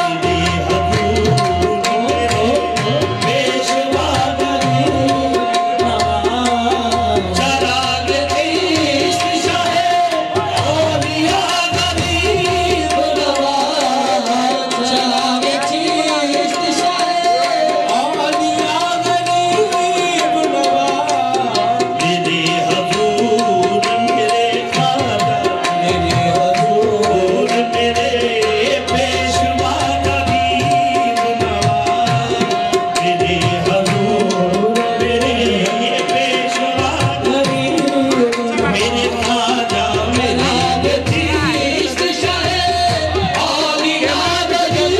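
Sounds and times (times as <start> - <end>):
harmonium drone: 0.0 - 44.9
tabla playing steady rhythm: 0.0 - 44.9.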